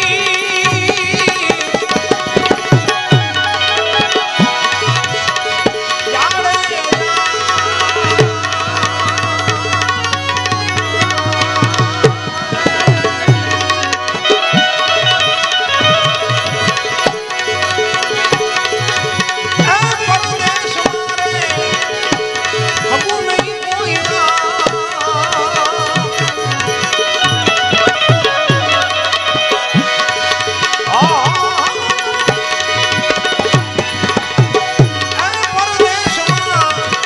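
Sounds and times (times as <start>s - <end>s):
harmonium notes: 0.0s - 37.0s
tabla fast strokes: 0.0s - 37.0s
wavering melodic line: 0.1s - 37.0s.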